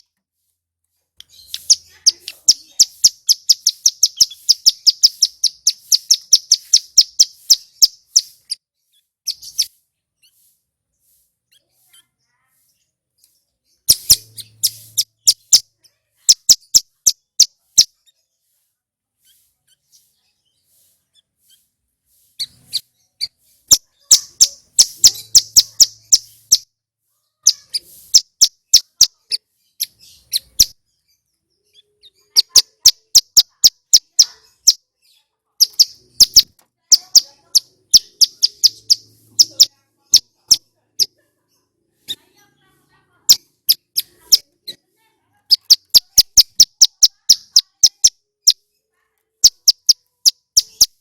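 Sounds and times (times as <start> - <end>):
bird chirping rapidly: 1.2 - 12.8, 13.6 - 18.4, 19.2 - 26.7, 27.4 - 41.2, 43.3 - 44.8, 45.5 - 48.7, 49.4 - 51.0.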